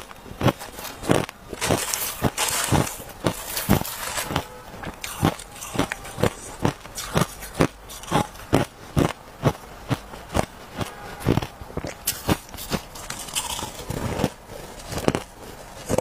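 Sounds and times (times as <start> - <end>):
crushed ice crunching: 0.0 - 16.0.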